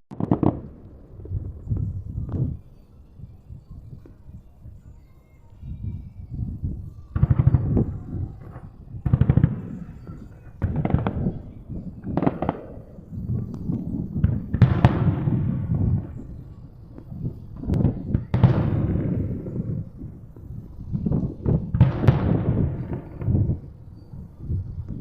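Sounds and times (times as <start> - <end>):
fireworks bursting: 0.1 - 25.0.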